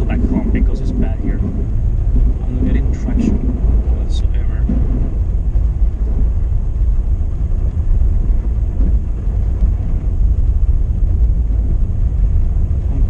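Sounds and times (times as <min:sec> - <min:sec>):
car driving on snowy road: 0:00.0 - 0:13.0.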